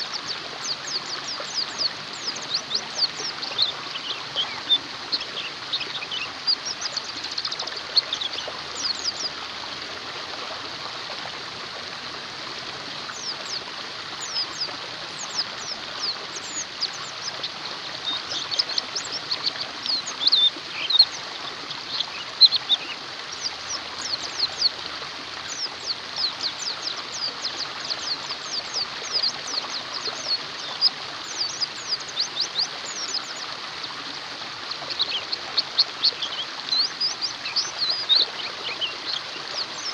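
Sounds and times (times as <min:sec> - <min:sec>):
birds twittering: 0:00.0 - 0:09.4, 0:13.1 - 0:24.8, 0:25.5 - 0:34.0, 0:34.7 - 0:39.9
stream water rushing: 0:00.0 - 0:39.9.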